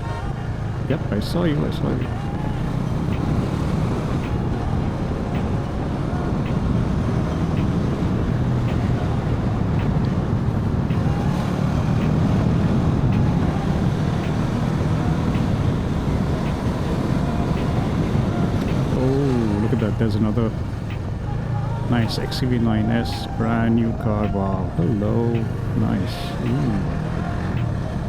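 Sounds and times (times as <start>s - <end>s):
motorcycle engine drone: 0.0s - 28.0s
wind and road noise: 0.0s - 28.0s.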